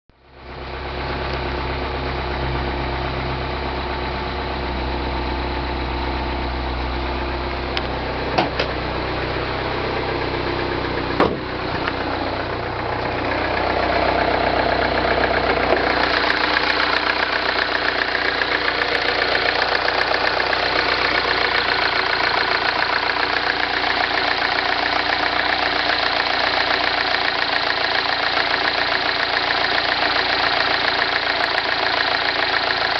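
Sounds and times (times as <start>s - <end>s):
car engine idling: 0.1s - 32.9s.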